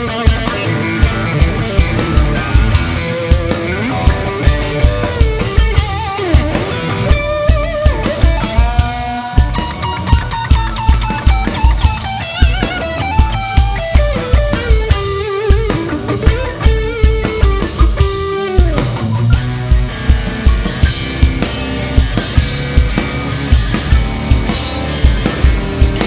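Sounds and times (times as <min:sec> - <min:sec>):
drum kit beat: 0:00.0 - 0:26.0
electric guitar solo: 0:00.0 - 0:26.0.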